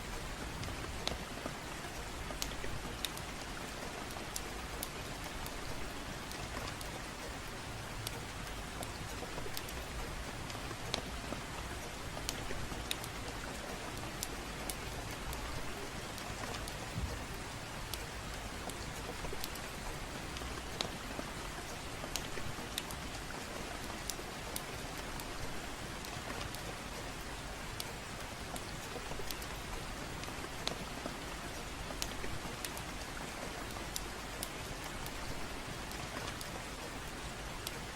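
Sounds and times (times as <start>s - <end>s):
fireplace crackling and popping: 0.0s - 37.9s
gentle rain: 0.0s - 37.9s.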